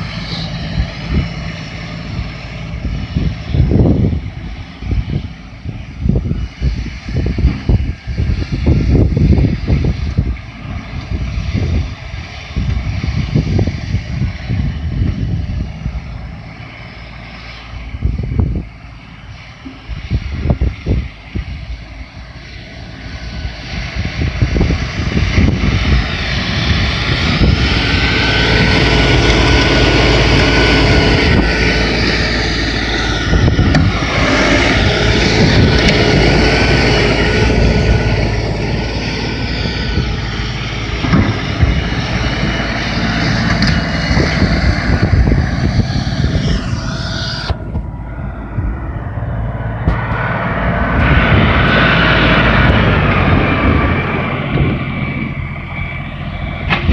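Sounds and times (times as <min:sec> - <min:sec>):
steady whine: 0:00.0 - 0:56.9
tractor diesel engine running: 0:00.0 - 0:56.9.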